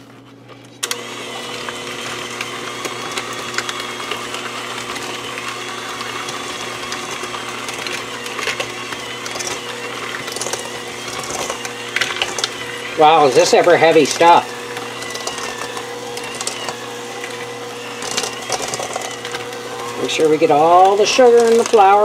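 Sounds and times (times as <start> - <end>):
electric hand mixer running: 0.8 - 22.0.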